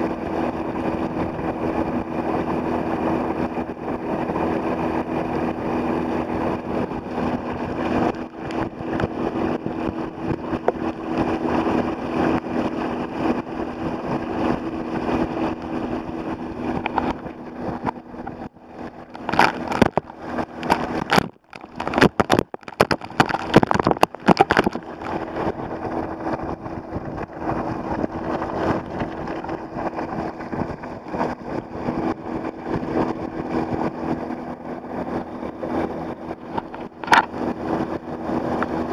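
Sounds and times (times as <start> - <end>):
outboard motor droning: 0.0 - 38.9
sharp knocks and splashing: 0.0 - 38.9
water rushing along kayak hull: 0.0 - 38.9
wind noise: 0.0 - 38.9.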